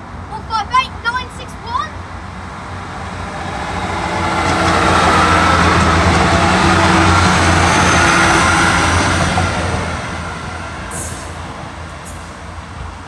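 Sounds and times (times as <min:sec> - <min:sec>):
diesel engines humming: 0:00.0 - 0:13.0
diesel train passing: 0:00.0 - 0:13.0
rail and wheel rumble: 0:00.0 - 0:13.0.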